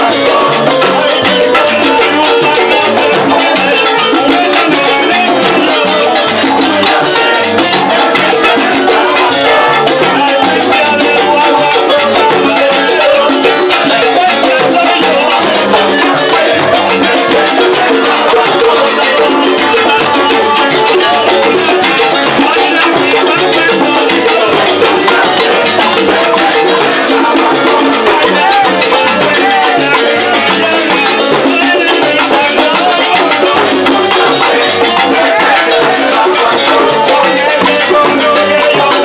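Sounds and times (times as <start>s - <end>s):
congas and timbales: 0.0s - 39.0s
salsa band playing: 0.0s - 39.0s.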